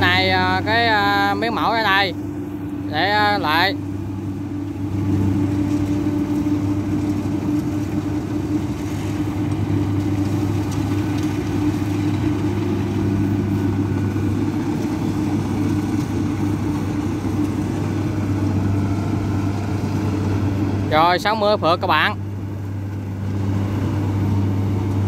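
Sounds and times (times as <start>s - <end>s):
combine harvester engine drone: 0.0s - 25.0s.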